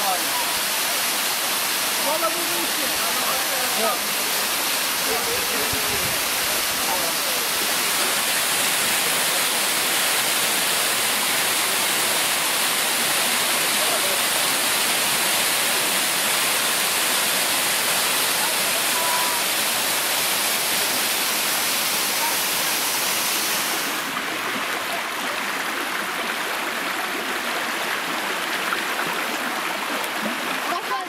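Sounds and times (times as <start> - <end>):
small waterfall rushing: 0.0 - 31.0.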